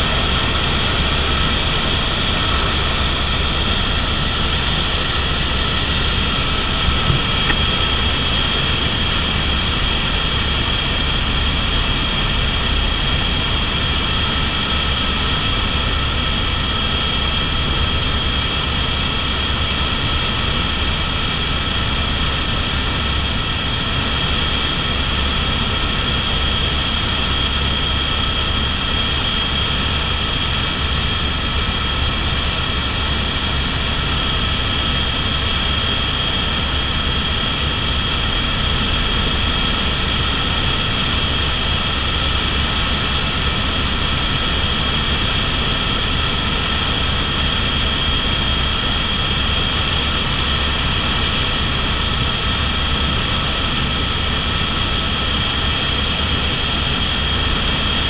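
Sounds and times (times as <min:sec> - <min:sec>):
helicopter rotor low drone: 0:00.0 - 0:58.0
turbine engine high whine: 0:00.0 - 0:58.0.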